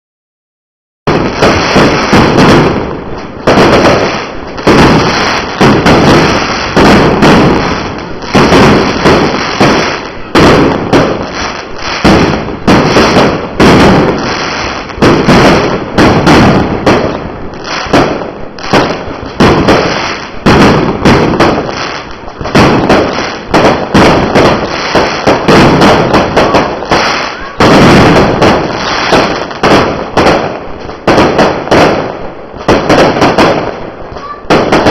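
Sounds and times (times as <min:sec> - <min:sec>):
fireworks bangs and crackles: 0:01.0 - 0:34.9.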